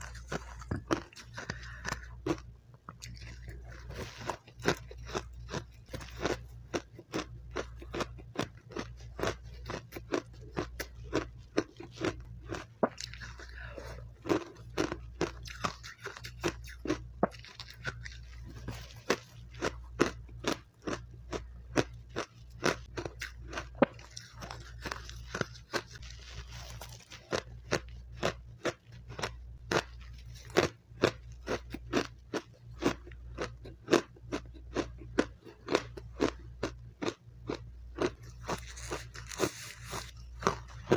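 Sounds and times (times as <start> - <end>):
crunching and chewing ice: 0.0 - 40.9
steady low hum: 0.0 - 40.9.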